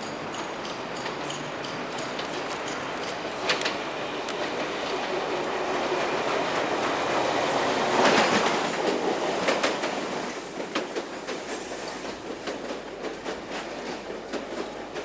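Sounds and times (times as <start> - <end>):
electric train passing: 0.0 - 15.0
wheels clicking over rail joints: 0.0 - 15.0.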